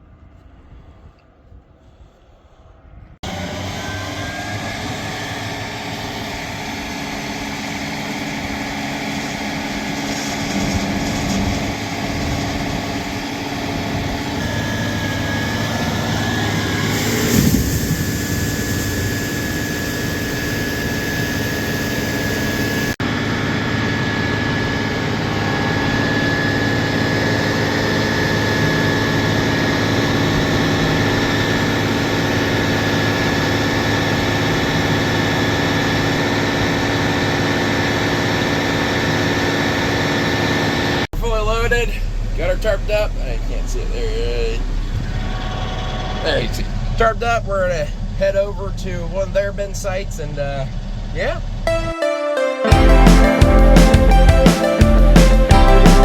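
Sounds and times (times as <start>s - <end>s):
diesel engine idling: 3.2s - 51.7s
thin steady whine: 3.8s - 52.0s.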